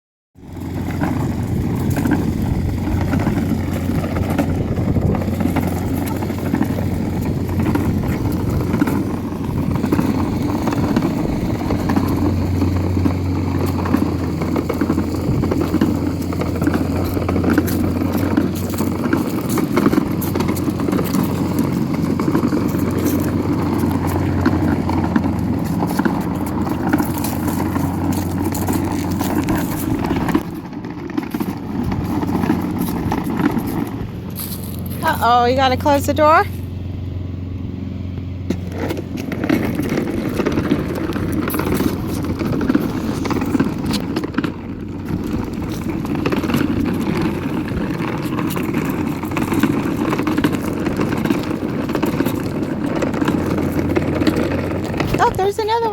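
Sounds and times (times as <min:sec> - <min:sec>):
toy truck motor hum: 0:00.4 - 0:36.7, 0:38.5 - 0:55.9
plastic wheels rolling: 0:00.4 - 0:36.9, 0:38.1 - 0:55.9.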